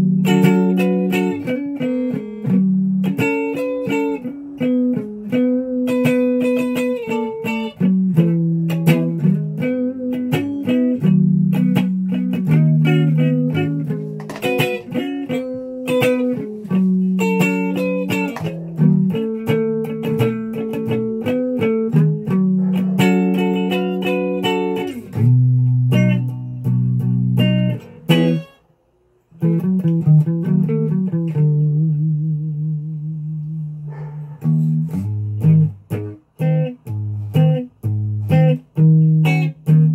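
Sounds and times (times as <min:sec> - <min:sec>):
clean electric guitar: 0:00.0 - 0:28.7, 0:29.3 - 0:39.9.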